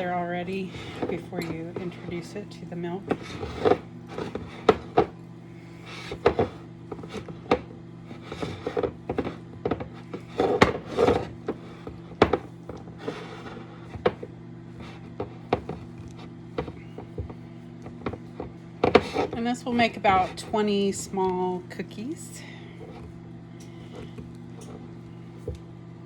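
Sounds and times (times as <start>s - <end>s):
rustling of mixing by hand: 0.0s - 26.0s
steady low hum: 0.0s - 26.0s.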